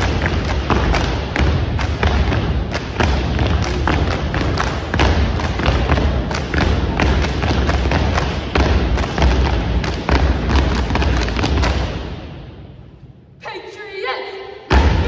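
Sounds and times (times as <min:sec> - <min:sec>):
heavy stomping thumps: 0:00.0 - 0:12.2
sharp slaps in unison: 0:00.0 - 0:12.2.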